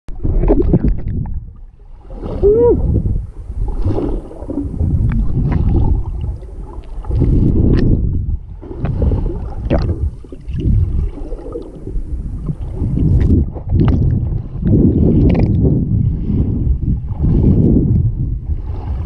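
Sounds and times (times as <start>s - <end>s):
water rushing underwater: 0.1s - 19.0s.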